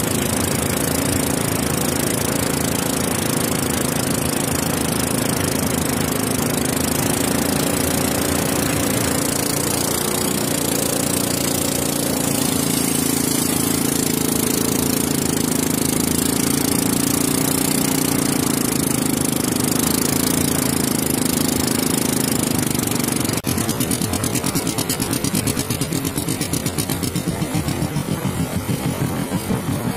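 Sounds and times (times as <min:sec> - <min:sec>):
boat engine running: 0:00.0 - 0:29.9.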